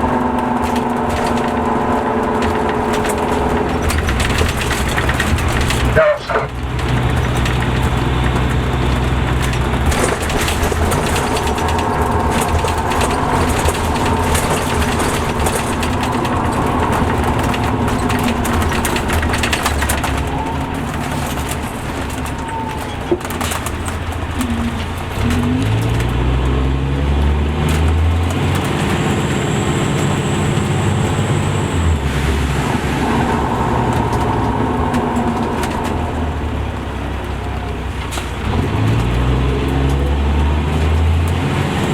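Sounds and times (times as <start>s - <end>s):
diesel coach engine running: 0.0s - 41.9s.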